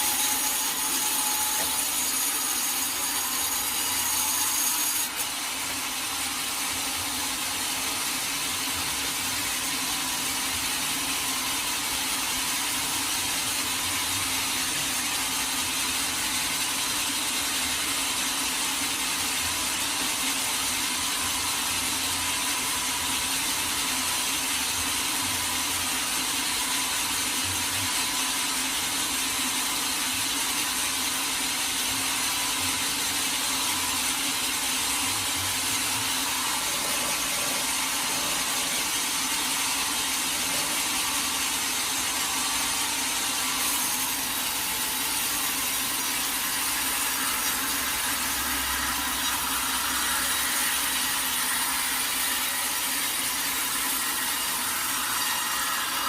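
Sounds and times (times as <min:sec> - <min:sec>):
saw blade cutting wood: 0:00.0 - 0:56.0.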